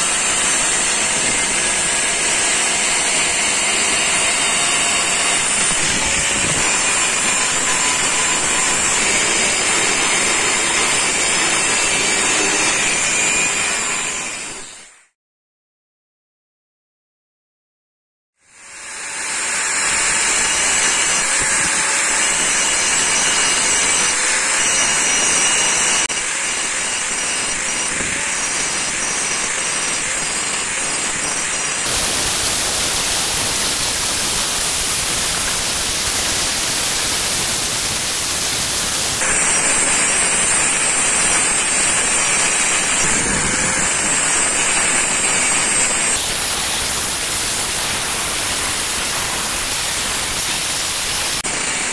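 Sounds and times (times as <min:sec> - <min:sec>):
angle grinder grinding steel: 0:00.0 - 0:14.6, 0:19.2 - 0:51.9.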